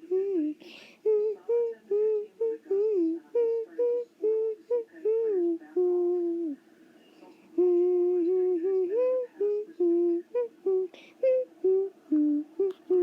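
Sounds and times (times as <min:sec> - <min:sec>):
person humming a tune: 0:00.0 - 0:06.6, 0:07.6 - 0:13.0.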